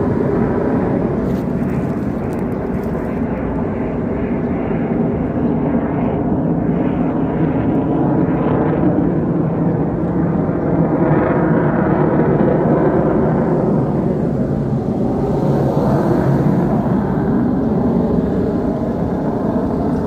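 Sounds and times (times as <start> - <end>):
fighter jet flying overhead: 0.0 - 20.0.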